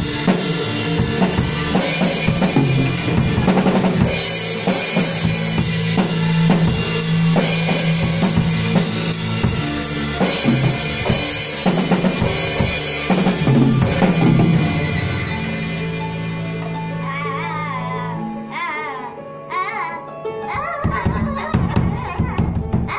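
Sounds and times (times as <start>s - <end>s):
child playing drum kit: 0.0s - 18.6s, 20.5s - 22.9s.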